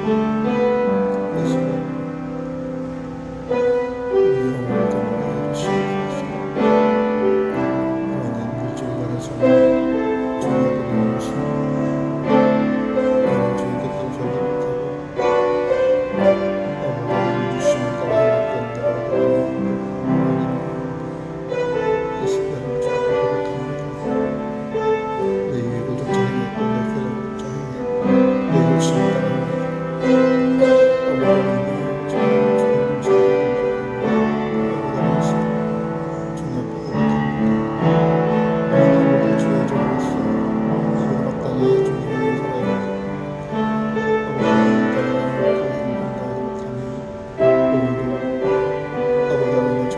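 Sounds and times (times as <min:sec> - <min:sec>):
slow piano music: 0:00.0 - 0:49.9.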